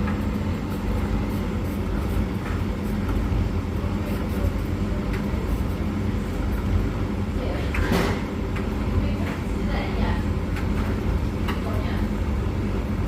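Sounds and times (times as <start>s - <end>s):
appliances humming: 0.0s - 13.0s.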